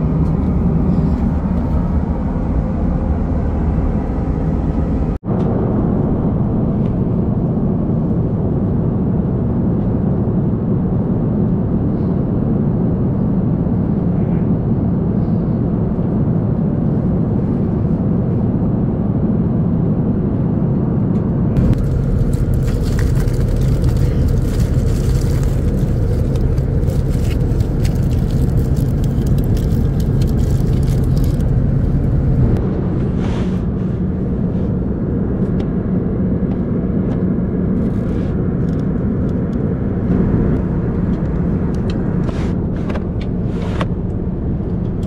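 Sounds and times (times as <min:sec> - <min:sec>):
airplane cabin roar: 0:00.0 - 0:45.0
low hum: 0:00.0 - 0:45.0.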